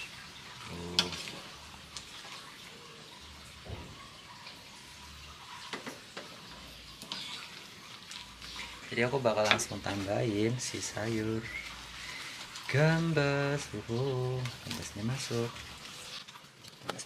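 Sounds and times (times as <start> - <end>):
soup bubbling in a pot: 0.0 - 17.0.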